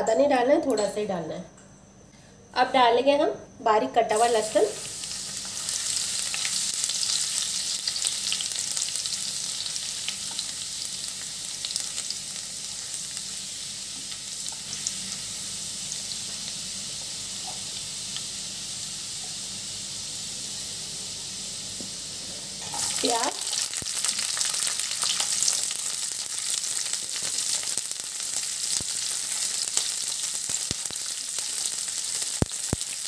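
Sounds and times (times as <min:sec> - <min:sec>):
garlic sizzling in hot oil: 0:04.1 - 0:33.0.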